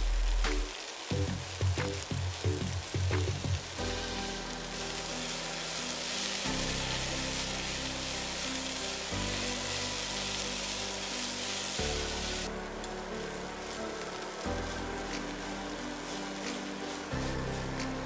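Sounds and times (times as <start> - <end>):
background music: 0.0 - 18.0
vegetables sizzling in frying pan: 0.0 - 18.0.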